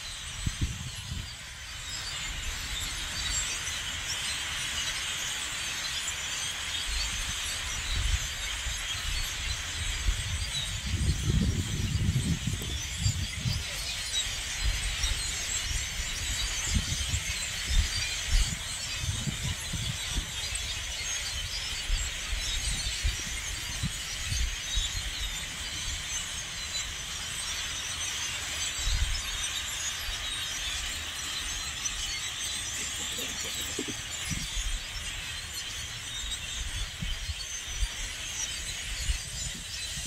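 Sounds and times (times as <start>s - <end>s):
flock of blackbirds chattering: 0.0s - 40.0s.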